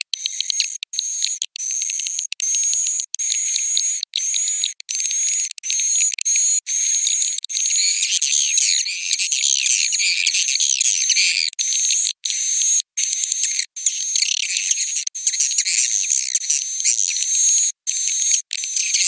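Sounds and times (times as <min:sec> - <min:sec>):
swiftlets twittering and chirping: 0:00.0 - 0:19.0.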